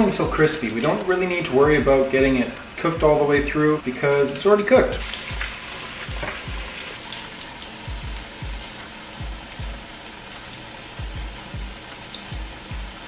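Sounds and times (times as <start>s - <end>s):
background music with deep beat: 0.0s - 3.9s, 4.8s - 13.0s
vegetables frying in hot oil: 0.0s - 13.0s.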